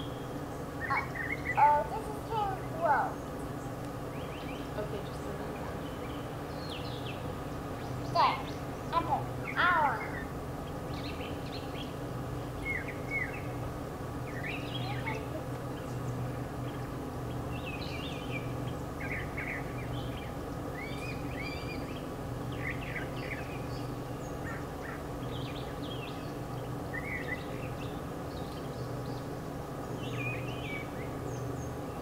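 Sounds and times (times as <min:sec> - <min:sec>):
songbirds chirping: 0:00.0 - 0:32.0
steady low hum: 0:00.0 - 0:32.0.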